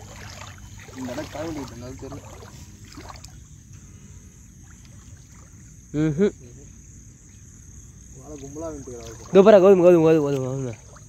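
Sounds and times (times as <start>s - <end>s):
night insects chirring: 0.0s - 11.0s
river water sloshing: 0.0s - 11.0s.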